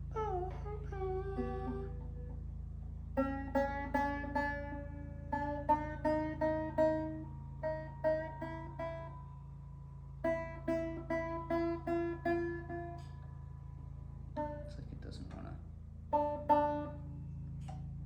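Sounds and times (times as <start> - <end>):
banjo string plucked while tuning: 0.0 - 2.5, 3.1 - 9.2, 10.2 - 13.4, 14.3 - 15.5, 16.1 - 17.9.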